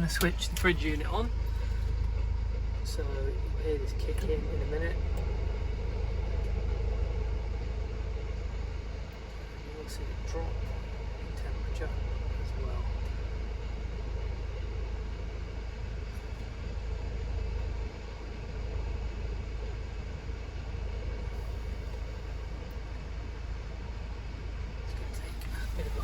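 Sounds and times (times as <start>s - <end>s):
diesel engine idling: 0.0s - 26.0s
refrigeration unit running: 0.0s - 26.0s.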